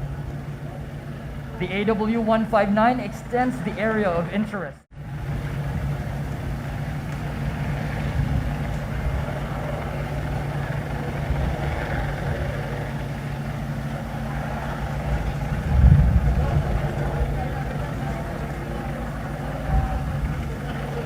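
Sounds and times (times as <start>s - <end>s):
engine hum: 0.0s - 21.0s.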